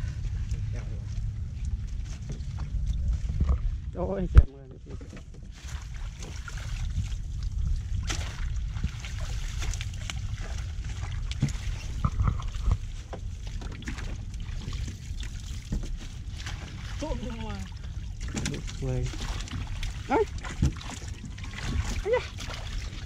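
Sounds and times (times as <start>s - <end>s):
low rumble: 0.0s - 23.0s
water trickling and sloshing: 0.0s - 23.0s.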